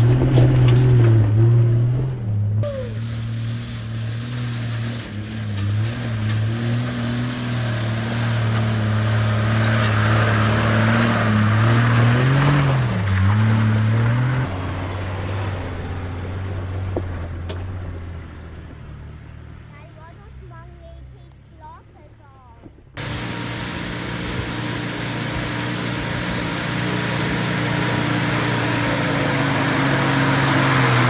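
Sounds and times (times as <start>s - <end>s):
engine running at low revs: 0.0s - 31.0s.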